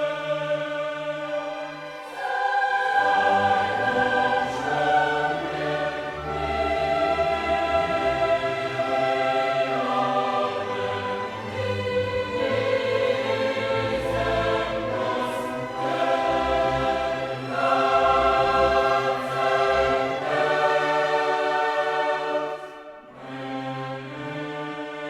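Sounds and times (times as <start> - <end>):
choir singing: 0.0 - 25.0
orchestra playing: 1.3 - 25.0.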